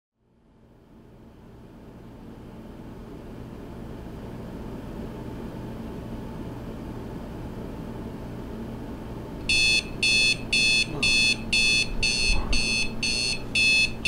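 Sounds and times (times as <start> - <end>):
low hum with soft hiss: 0.3 - 14.0.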